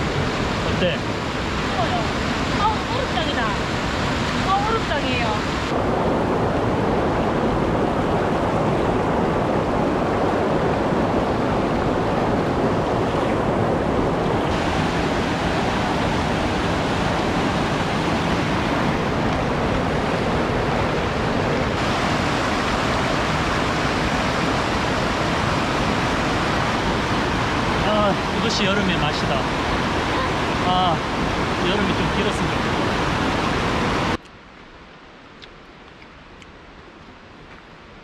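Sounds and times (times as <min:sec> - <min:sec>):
water rushing over boulders: 0:00.0 - 0:34.5.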